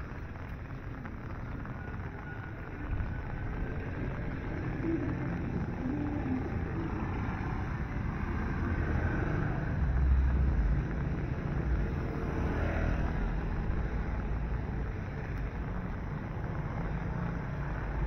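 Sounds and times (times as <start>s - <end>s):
motorcycle passing: 0.0s - 18.0s
traffic on wet road: 0.0s - 18.0s.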